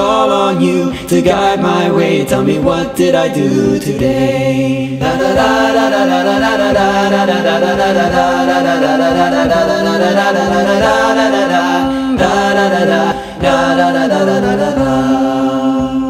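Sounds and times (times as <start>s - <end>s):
voices singing in harmony: 0.0s - 16.0s.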